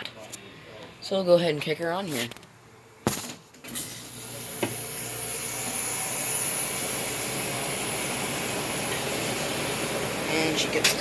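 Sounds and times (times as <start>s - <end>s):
air conditioner fan rushing air: 0.2s - 11.0s.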